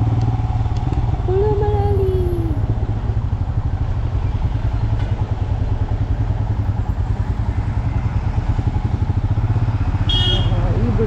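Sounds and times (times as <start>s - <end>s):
motorcycle engine cruising: 0.0s - 11.0s
road and wind noise: 0.0s - 11.0s.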